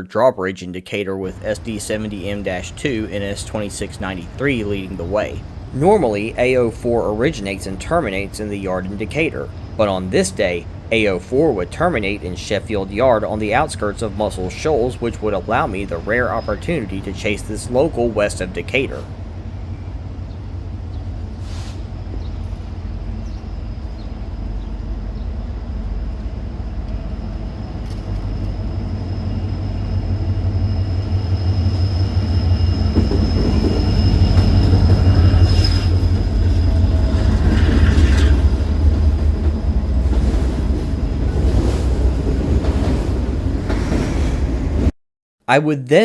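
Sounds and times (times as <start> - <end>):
diesel locomotive engine rumble: 1.2 - 44.9
high wheel squeal: 1.3 - 25.4, 26.9 - 41.9.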